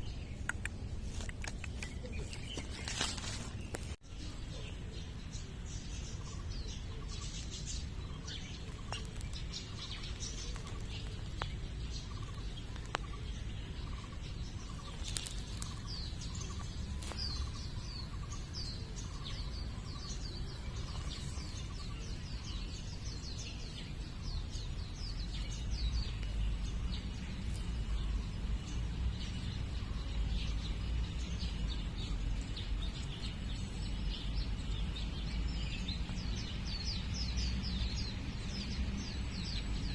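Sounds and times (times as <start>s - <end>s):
small birds chirping: 0.0s - 39.9s
steady low rumble: 3.6s - 39.9s.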